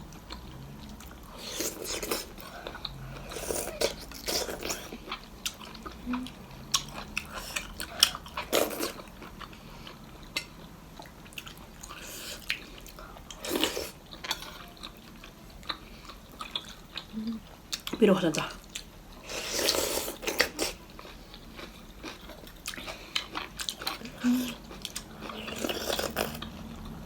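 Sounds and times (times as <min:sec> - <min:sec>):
person chewing: 0:00.1 - 0:18.0, 0:18.6 - 0:27.0.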